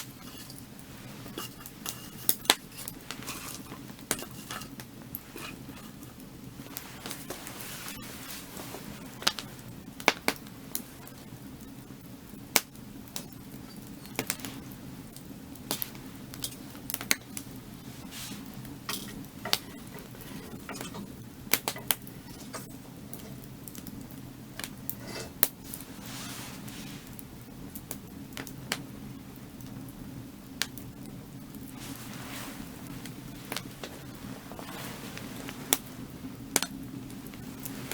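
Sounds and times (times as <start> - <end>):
firewood crackling and popping: 0.0 - 37.9.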